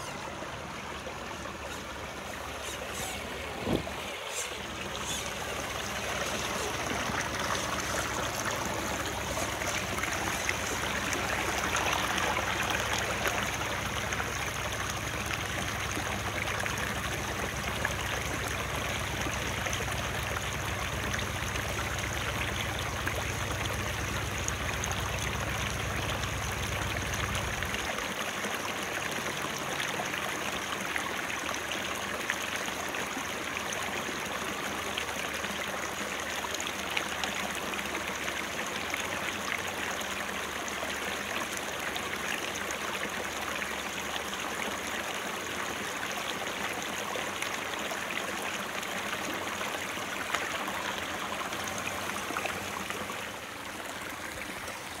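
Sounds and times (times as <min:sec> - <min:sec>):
creek trickling over stones: 0:00.0 - 0:55.0.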